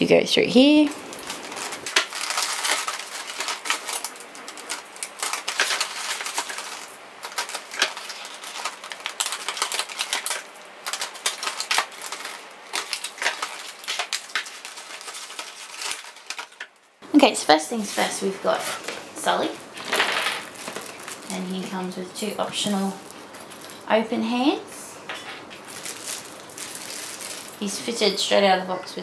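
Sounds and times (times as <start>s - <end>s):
plastic packaging crackling: 0.6s - 24.5s, 25.1s - 28.4s.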